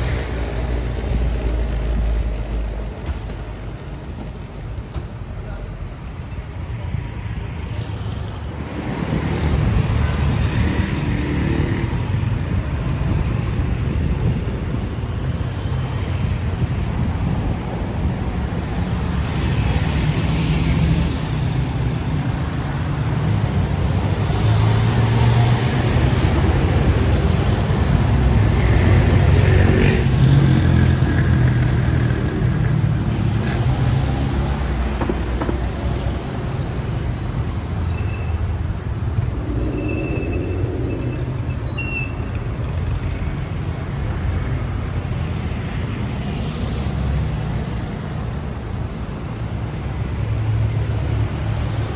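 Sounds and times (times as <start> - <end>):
low traffic rumble: 0.0 - 51.9
vehicles passing: 0.0 - 51.9.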